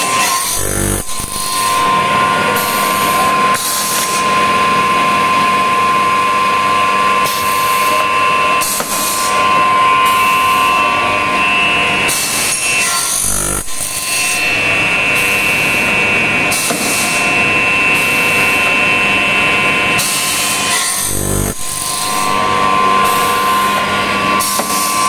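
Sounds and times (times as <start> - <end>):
high-pitched motor whine: 0.0 - 25.0.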